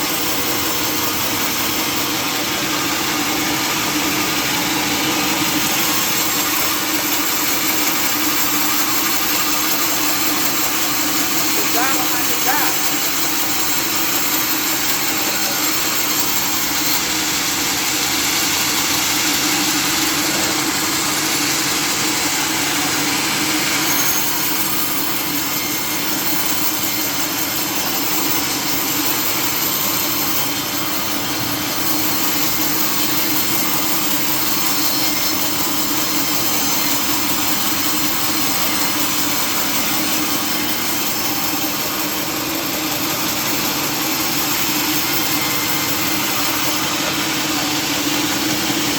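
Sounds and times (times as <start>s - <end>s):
sawmill machinery humming: 0.0s - 48.9s.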